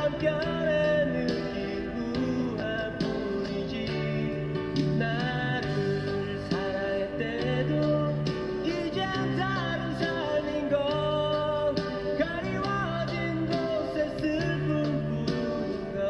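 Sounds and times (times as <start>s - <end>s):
song with guitar and bass: 0.0s - 16.0s.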